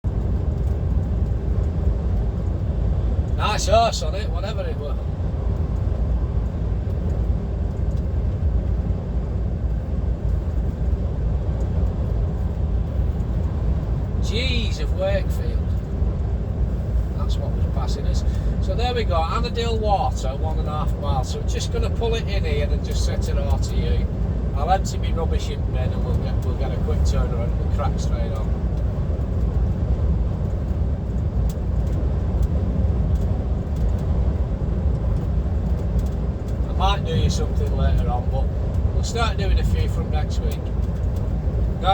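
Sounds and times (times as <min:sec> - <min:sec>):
tyre road rumble: 0:00.0 - 0:41.9
lorry engine drone: 0:00.1 - 0:41.9.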